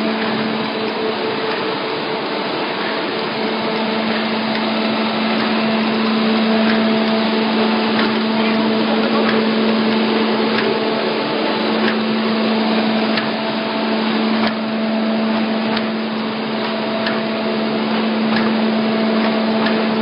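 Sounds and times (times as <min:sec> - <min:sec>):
low hum: 0:00.0 - 0:19.6
machine whirring: 0:00.0 - 0:20.0.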